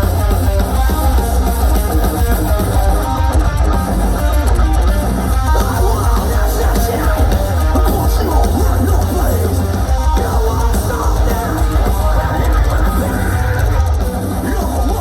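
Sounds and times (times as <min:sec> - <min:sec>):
bass guitar: 0:00.0 - 0:15.0
drums: 0:00.0 - 0:15.0
electric guitars fast riff: 0:00.0 - 0:15.0.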